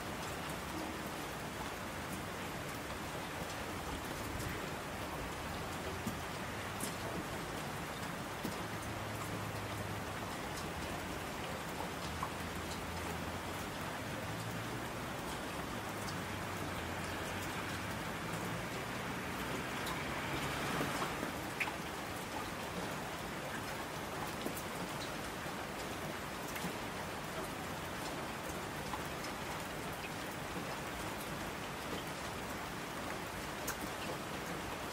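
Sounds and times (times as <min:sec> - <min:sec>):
steady rain falling: 0:00.0 - 0:34.9
rain drop ticks: 0:01.6 - 0:34.9.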